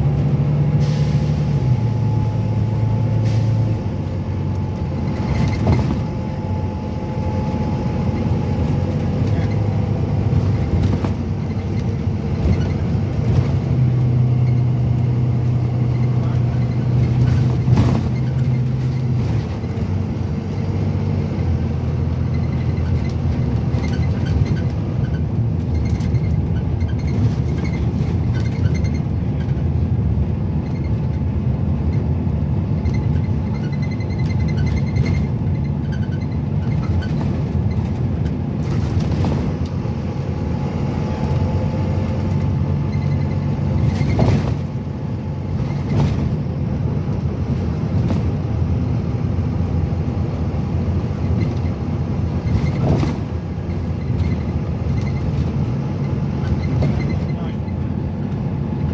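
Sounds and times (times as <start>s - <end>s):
bus diesel engine rumble: 0.0s - 58.9s
road noise: 0.0s - 58.9s.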